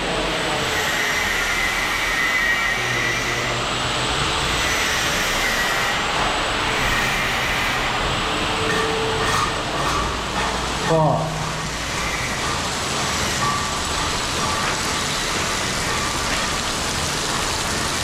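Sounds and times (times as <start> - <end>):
heavy rain: 0.0 - 18.0
running water: 2.8 - 18.0.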